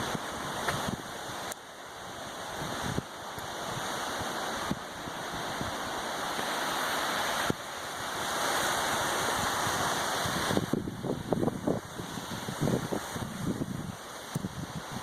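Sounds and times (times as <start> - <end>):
surf: 0.0 - 15.0
wind: 0.0 - 15.0.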